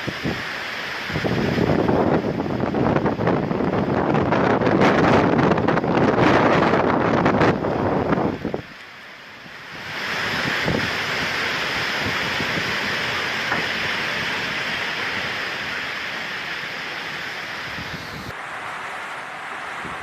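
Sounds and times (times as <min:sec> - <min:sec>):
storm wind rushing: 0:00.0 - 0:20.0.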